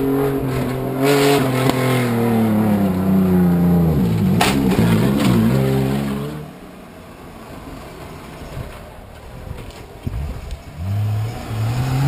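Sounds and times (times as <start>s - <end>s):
off-road vehicle engine passing: 0.0s - 12.0s.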